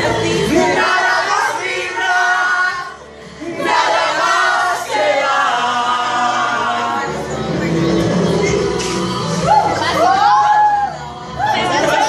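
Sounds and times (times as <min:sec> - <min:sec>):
men and women singing together: 0:00.0 - 0:09.9.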